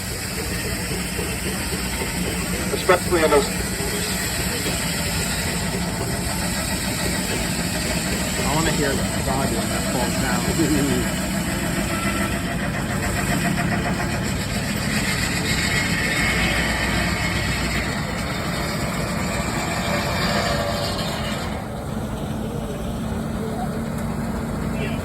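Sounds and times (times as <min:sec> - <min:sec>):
steam engine driving sawmill: 0:00.0 - 0:25.0
saw blade cutting log: 0:00.8 - 0:21.6.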